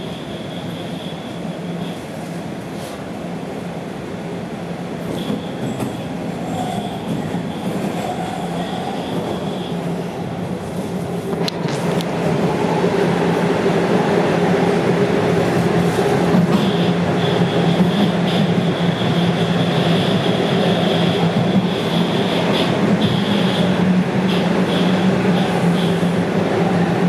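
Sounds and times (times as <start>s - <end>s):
subway train rumbling in tunnel: 0.0s - 27.0s.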